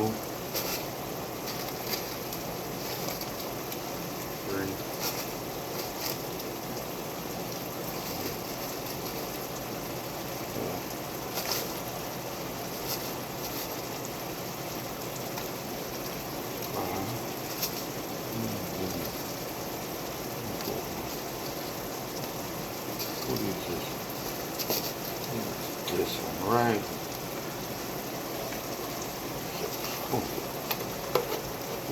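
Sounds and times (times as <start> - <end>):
sauce sizzling and bubbling: 0.0 - 31.9.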